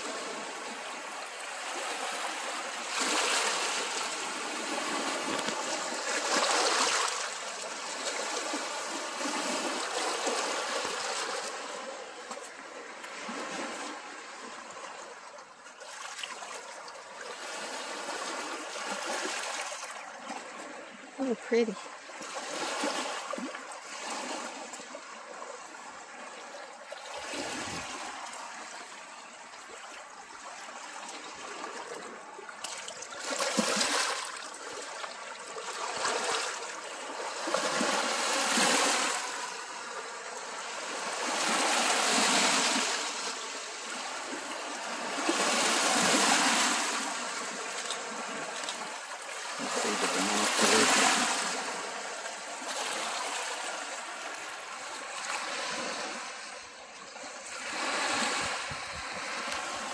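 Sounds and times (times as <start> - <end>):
small waves washing on shore: 0.0 - 59.9.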